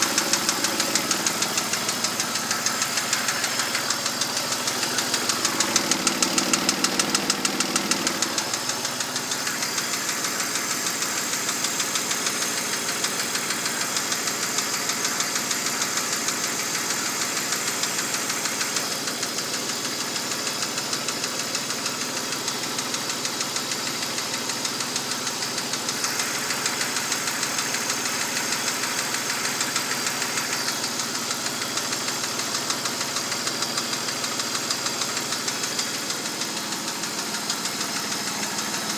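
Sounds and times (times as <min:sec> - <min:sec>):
car engine running: 0:00.0 - 0:38.9
rhythmic engine knock: 0:00.0 - 0:38.9.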